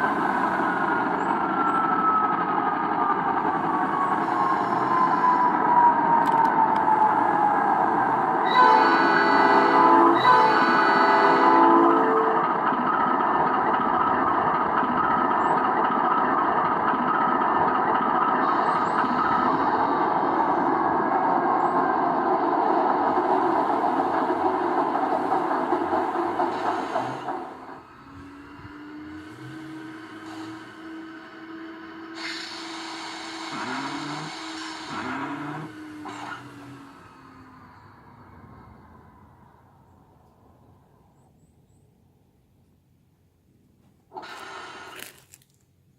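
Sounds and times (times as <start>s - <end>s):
model locomotive diesel engine drone: 0.0s - 45.9s.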